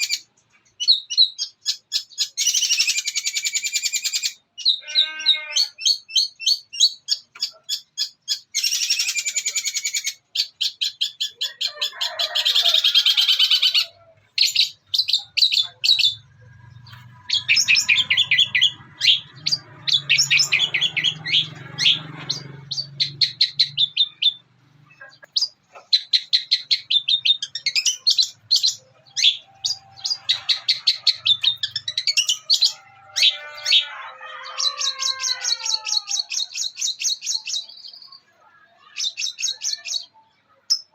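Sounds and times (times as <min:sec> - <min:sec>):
bird singing high chirps: 0:00.0 - 0:11.6, 0:12.8 - 0:40.2.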